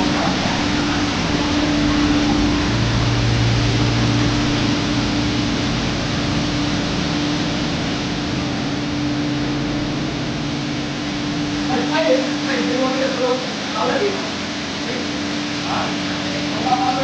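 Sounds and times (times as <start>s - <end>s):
deeper hum: 0.0s - 17.0s
mechanical hum: 0.0s - 17.0s.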